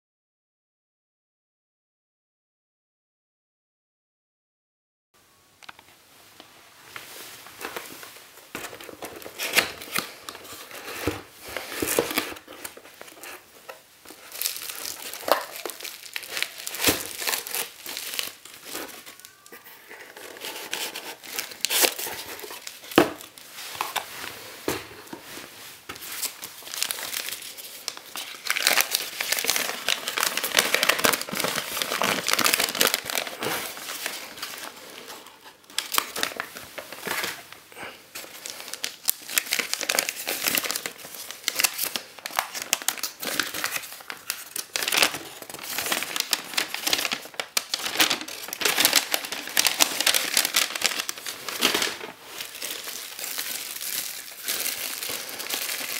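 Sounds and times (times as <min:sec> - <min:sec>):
packaging crinkling and rustling: 0:06.9 - 0:55.9.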